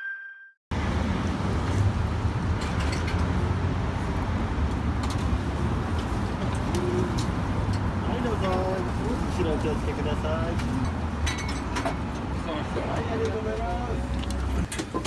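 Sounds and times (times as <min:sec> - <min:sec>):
urban background rumble: 0:00.7 - 0:15.0.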